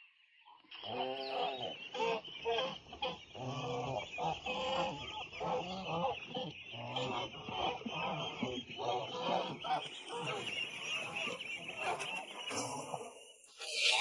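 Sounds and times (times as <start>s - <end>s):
poultry calling: 0.8s - 14.0s.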